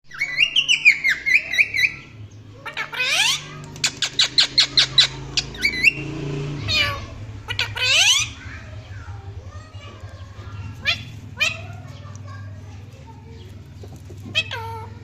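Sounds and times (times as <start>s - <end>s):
parrot chirping and squawking: 0.1s - 9.2s, 9.9s - 12.2s, 13.6s - 15.0s.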